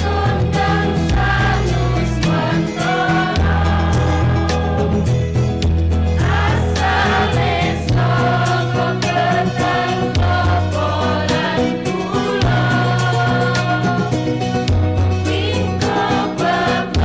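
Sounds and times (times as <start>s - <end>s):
choir singing in parts: 0.0s - 17.0s
instrumental accompaniment: 0.0s - 17.0s
steady percussion beat: 0.0s - 17.0s.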